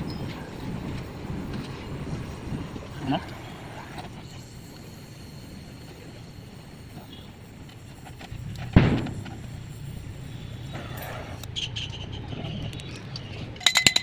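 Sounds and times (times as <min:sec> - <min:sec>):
welding arc crackling: 0:00.0 - 0:13.3.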